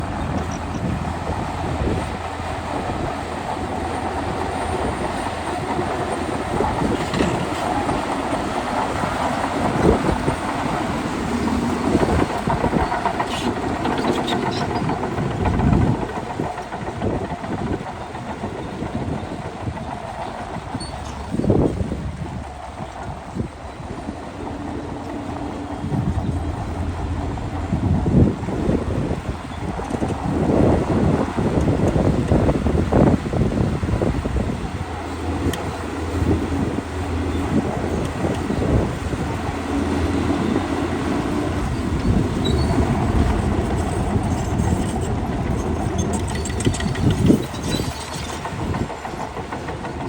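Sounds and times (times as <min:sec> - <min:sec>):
bulldozer engine running: 0:00.0 - 0:50.0
track clatter: 0:00.0 - 0:50.0.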